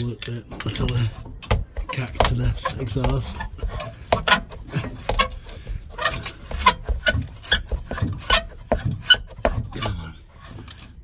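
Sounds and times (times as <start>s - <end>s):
knocks and clanks on metal exhaust: 0.0s - 11.0s.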